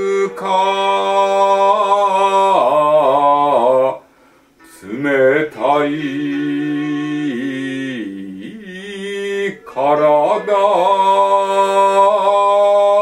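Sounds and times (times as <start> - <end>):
solo voice chanting: 0.0 - 13.0.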